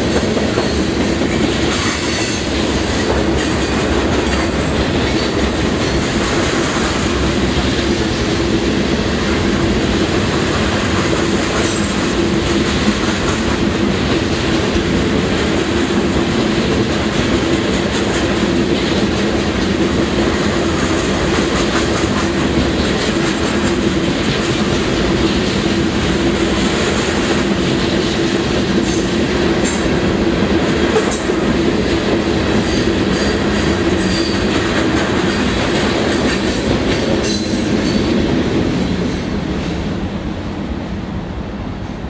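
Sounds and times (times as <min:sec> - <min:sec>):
wheels clacking over rail joints: 0:00.0 - 0:38.2
freight train rumbling past: 0:00.0 - 0:42.0.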